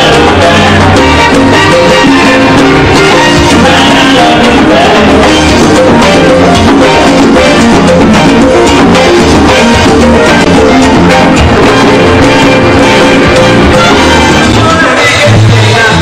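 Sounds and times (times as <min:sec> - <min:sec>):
salsa music: 0:00.0 - 0:16.0.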